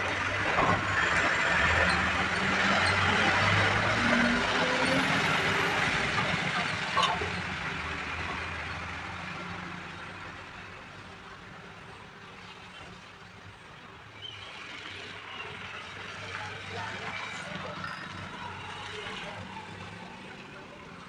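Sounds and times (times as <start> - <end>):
heavy vehicle noise: 0.0 - 14.0, 14.6 - 21.0
passing road traffic: 0.0 - 21.0.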